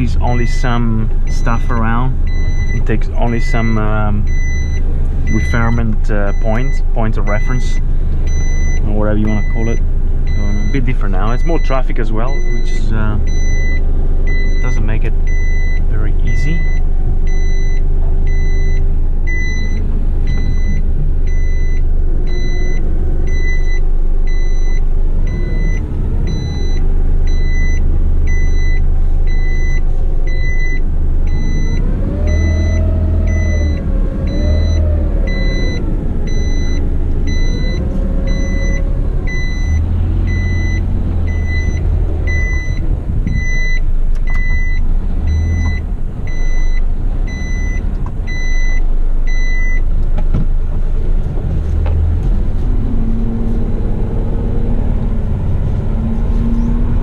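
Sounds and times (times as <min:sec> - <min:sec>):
truck diesel engine running: 0:00.0 - 0:57.0
reversing alarm beeping: 0:01.3 - 0:49.8.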